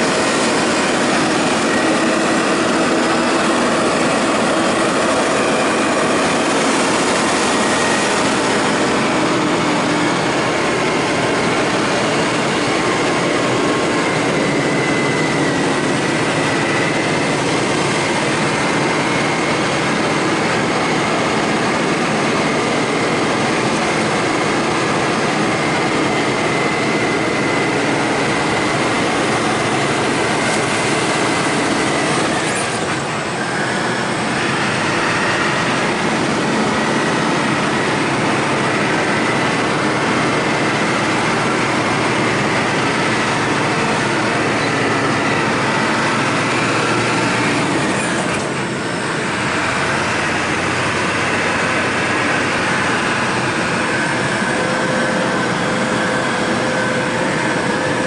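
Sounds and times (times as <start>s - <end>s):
heavy vehicle engine and road noise: 0.0s - 58.0s.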